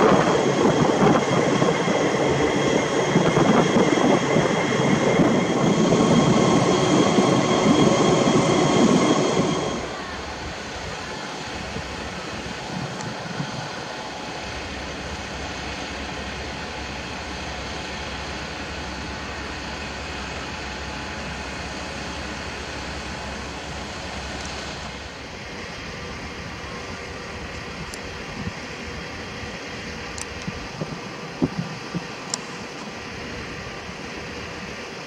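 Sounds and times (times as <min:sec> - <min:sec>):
diesel locomotives idling: 0:00.0 - 0:35.0.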